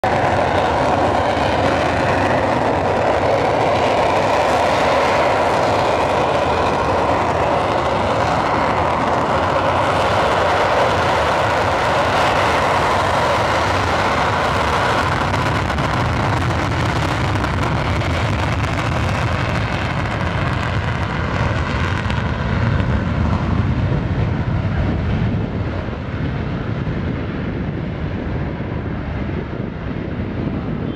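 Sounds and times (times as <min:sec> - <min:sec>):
jet engines roaring on takeoff: 0:00.0 - 0:30.9.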